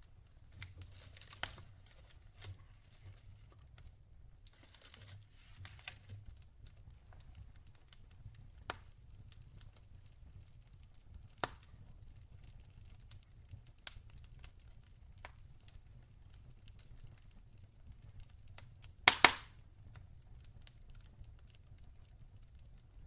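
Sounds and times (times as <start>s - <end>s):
fire pops: 0.0s - 23.0s
log fire crackling: 0.0s - 23.0s.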